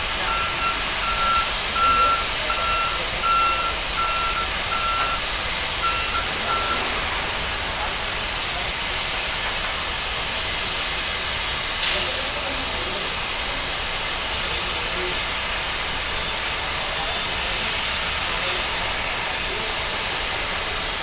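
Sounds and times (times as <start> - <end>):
jet turbine hiss: 3.0 - 21.0.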